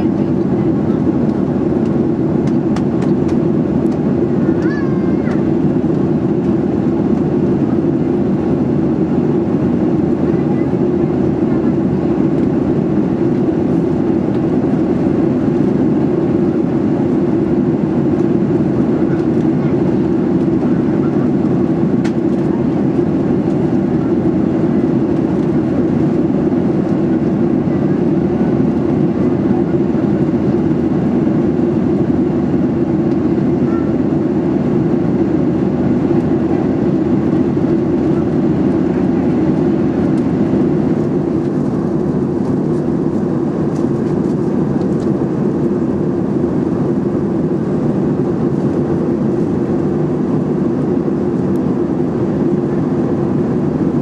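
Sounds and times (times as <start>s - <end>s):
air rushing along fuselage: 0.0s - 54.0s
airplane cabin engine drone: 0.0s - 54.0s.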